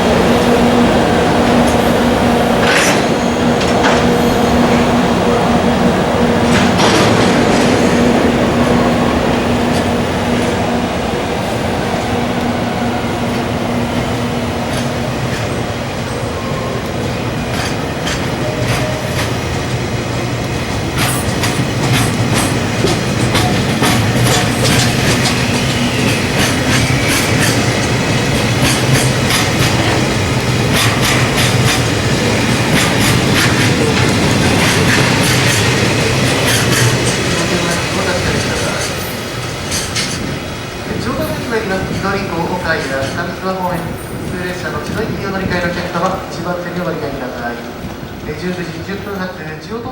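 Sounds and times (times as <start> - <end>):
train rumble: 0.0 - 49.9
train wheels clicking over rail joints: 1.4 - 10.6, 13.3 - 16.1, 16.8 - 49.3.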